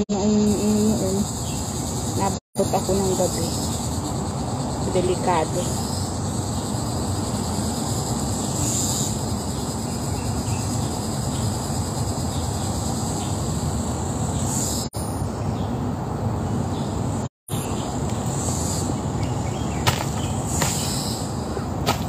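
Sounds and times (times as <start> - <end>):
insect chorus shrilling: 0.1 - 15.7, 16.5 - 21.8.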